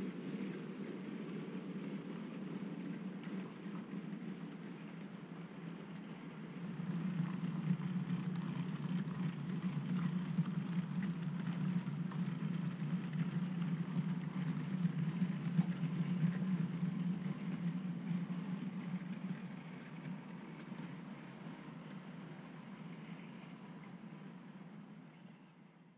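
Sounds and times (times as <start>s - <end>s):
faint clicks from rails: 0.0s - 25.8s.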